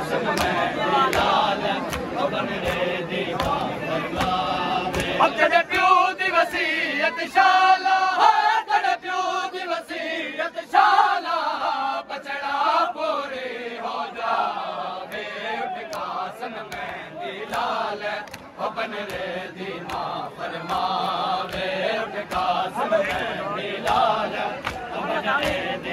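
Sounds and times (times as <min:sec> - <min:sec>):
men chanting in chorus: 0:00.0 - 0:25.9.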